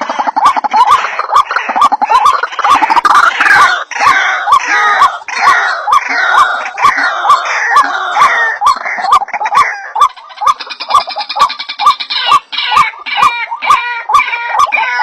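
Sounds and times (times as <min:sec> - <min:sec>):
waterhen calls: 0:00.0 - 0:15.0.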